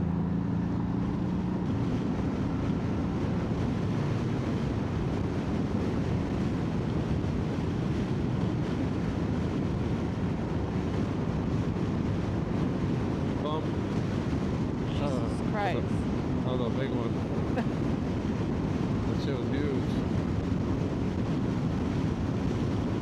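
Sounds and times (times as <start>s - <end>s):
wind rush over microphone: 0.7s - 23.0s.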